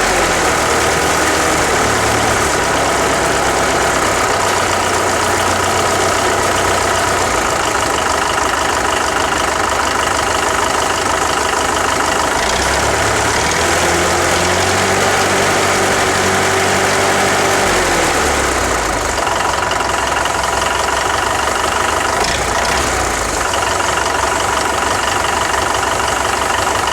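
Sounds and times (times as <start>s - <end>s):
tractor engine idling: 0.0s - 26.9s.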